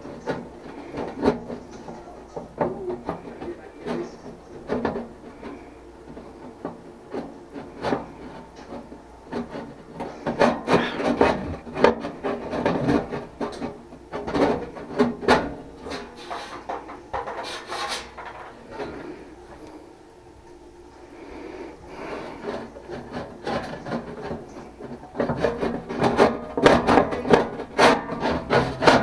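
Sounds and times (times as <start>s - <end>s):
scraping and rubbing: 0.0s - 19.2s, 21.2s - 29.0s.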